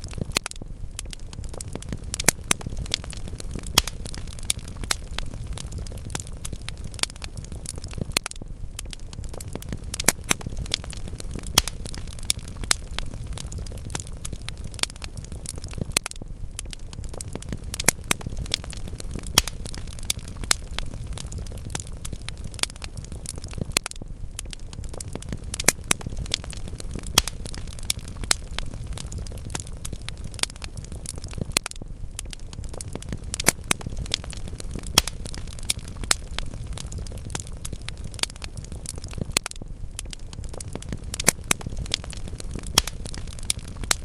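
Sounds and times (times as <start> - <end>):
low rumble of flames: 0.0 - 44.0
wood logs crackling and popping: 0.0 - 44.0.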